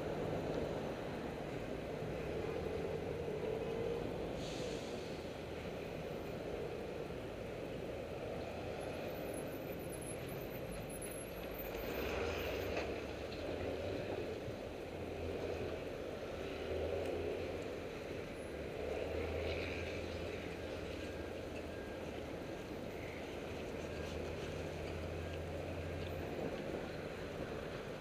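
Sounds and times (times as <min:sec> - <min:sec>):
street traffic: 0:00.0 - 0:28.0
vehicles passing: 0:00.0 - 0:28.0.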